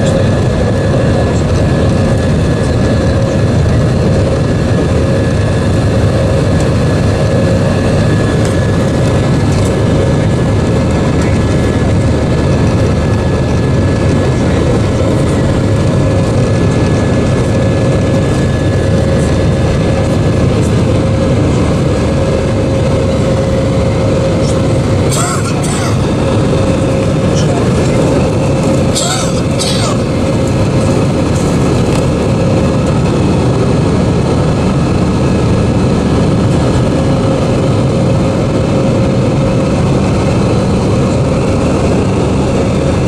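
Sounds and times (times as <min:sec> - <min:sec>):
constant engine whine: 0:00.0 - 0:43.0
jet engine cabin rumble: 0:00.0 - 0:43.0.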